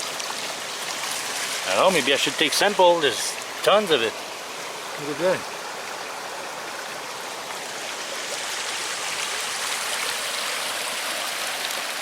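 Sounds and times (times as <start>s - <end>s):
creek water running over stones: 0.0s - 12.0s.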